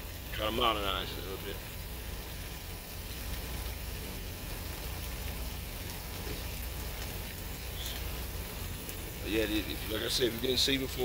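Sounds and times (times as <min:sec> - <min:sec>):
steaks sizzling in frying pan: 0:00.0 - 0:11.0.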